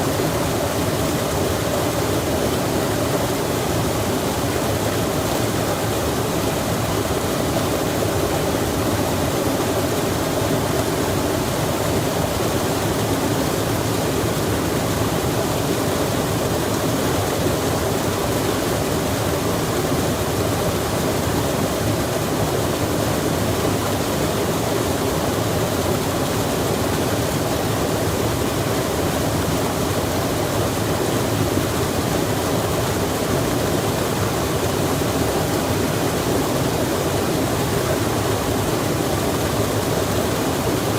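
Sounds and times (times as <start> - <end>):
rain and stream water rushing: 0.0 - 40.9.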